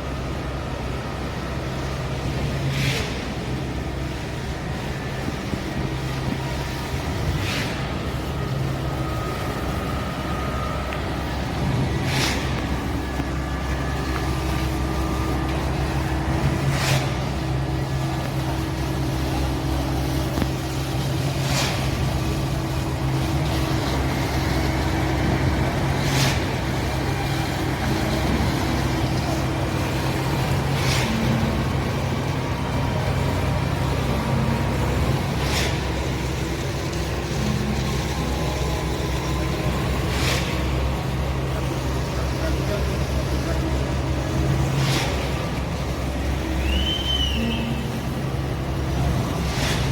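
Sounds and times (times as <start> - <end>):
engine hum: 0.0 - 49.9.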